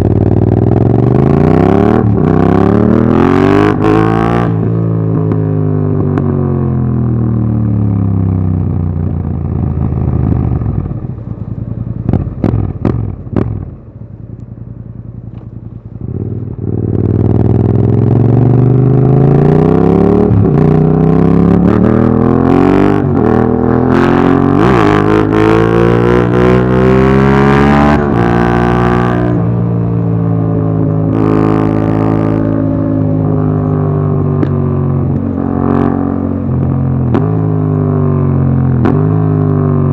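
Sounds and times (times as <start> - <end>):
motorcycle engine revving: 0.0 - 14.0, 14.9 - 39.9.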